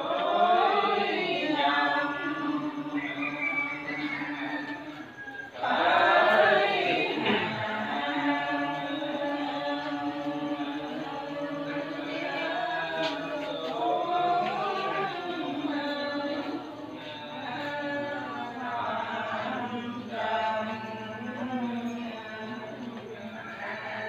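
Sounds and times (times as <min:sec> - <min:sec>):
group chanting prayer: 0:00.0 - 0:24.0.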